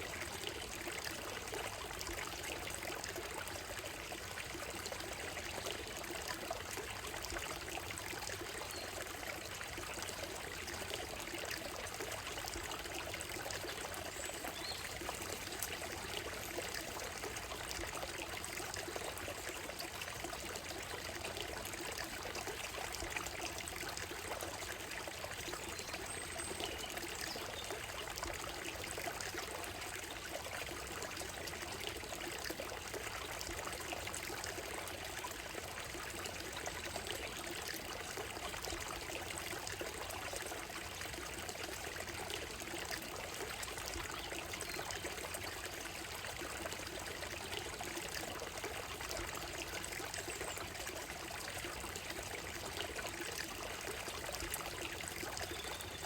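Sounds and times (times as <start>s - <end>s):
stream running over gravel: 0.0s - 56.0s.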